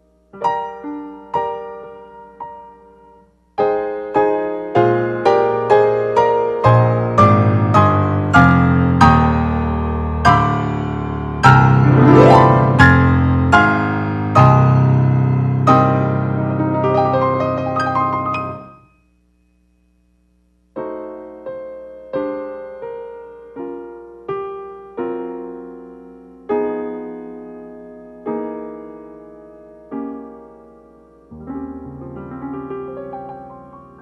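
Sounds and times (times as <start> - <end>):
solo piano playing: 0.3 - 18.8, 20.8 - 34.0.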